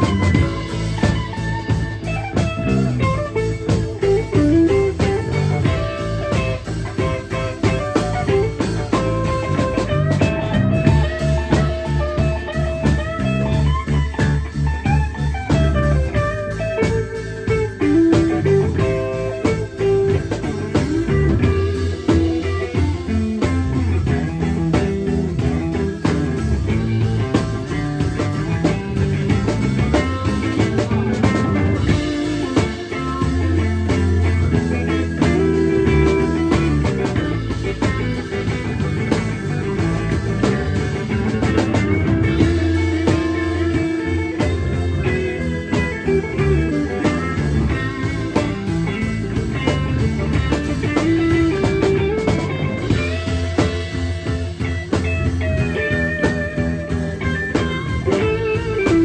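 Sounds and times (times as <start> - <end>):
drum kit beat: 0.0 - 59.0
electric bass line: 0.0 - 59.0
electric guitar notes: 0.0 - 59.0.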